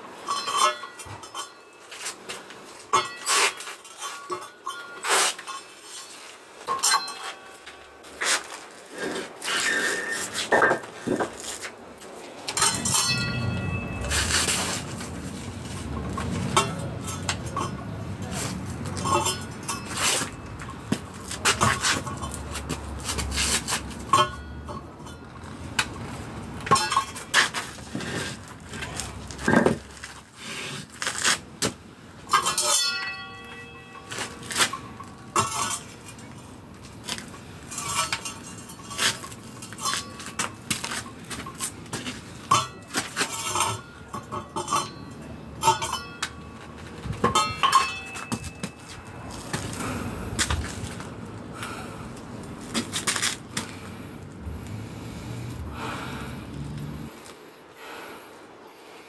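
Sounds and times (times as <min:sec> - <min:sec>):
clinks and scrapes: 0:00.2 - 0:55.6.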